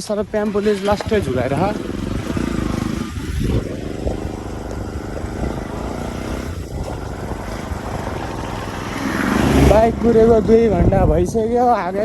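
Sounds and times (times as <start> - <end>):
scooter engine puttering: 0.0 - 12.0.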